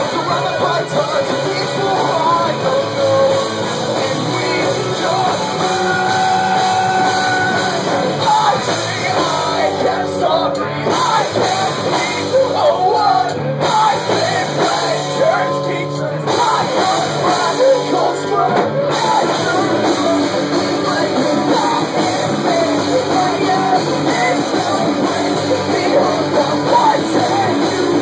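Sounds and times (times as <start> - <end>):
bass guitar: 0.0 - 28.0
electric guitar: 0.0 - 28.0
person singing: 0.0 - 28.0.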